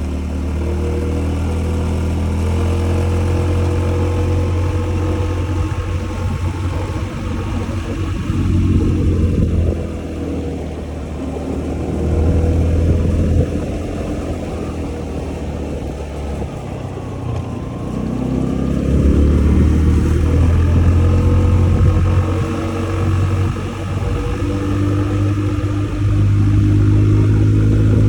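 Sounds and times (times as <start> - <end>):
scooter engine running: 0.0 - 28.0
wind noise on microphone: 2.1 - 28.0.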